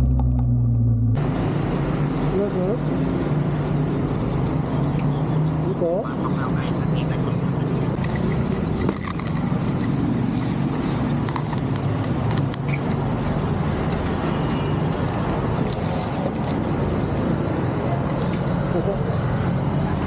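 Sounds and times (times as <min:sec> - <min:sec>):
street traffic hum: 0:00.0 - 0:20.0.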